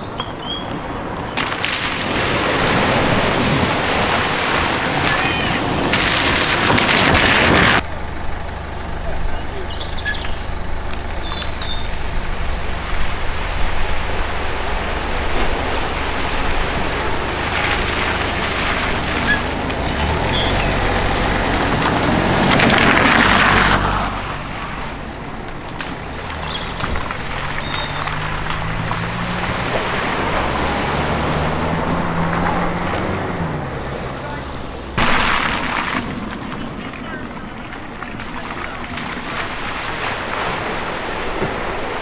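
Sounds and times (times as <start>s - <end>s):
car engines running: 0.0s - 42.0s
tyres swishing through water: 0.8s - 42.0s.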